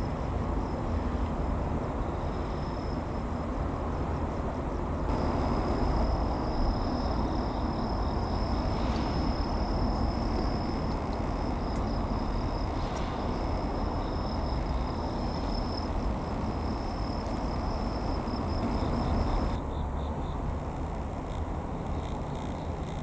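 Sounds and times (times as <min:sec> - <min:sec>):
railway cars rumbling: 0:00.0 - 0:22.0.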